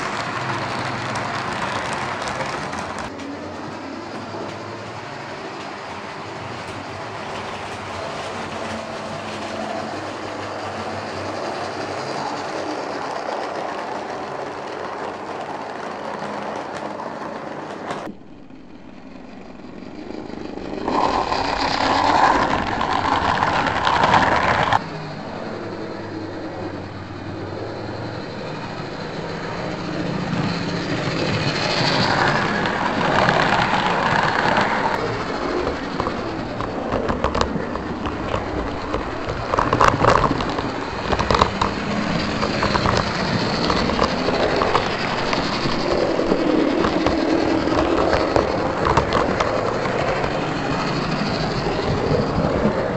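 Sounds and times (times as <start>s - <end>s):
wheels clattering over rail joints: 0.0s - 18.1s, 19.8s - 52.9s
model train motors humming: 0.0s - 52.9s.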